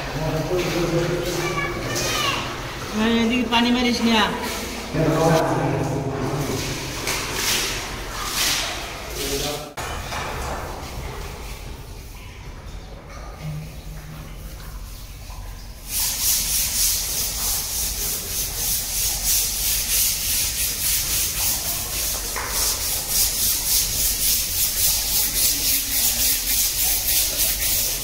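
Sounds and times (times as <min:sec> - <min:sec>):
hand scrubber scrubbing tank wall: 0:00.0 - 0:28.0.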